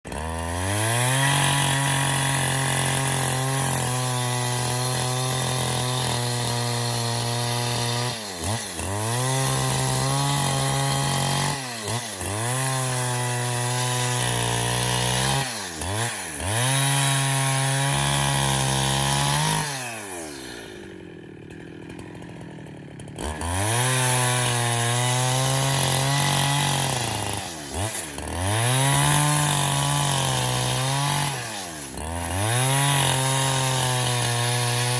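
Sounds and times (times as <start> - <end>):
chainsaw engine revving: 0.1 - 34.9.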